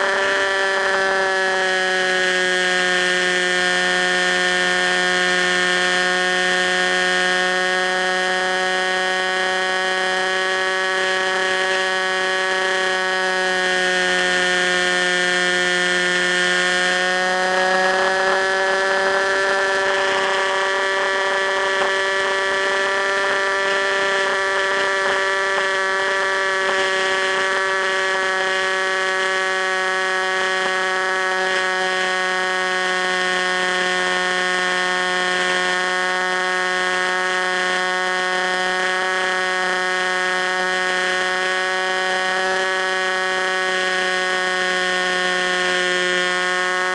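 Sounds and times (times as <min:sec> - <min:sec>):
model plane motor whining: 0:00.0 - 0:46.9.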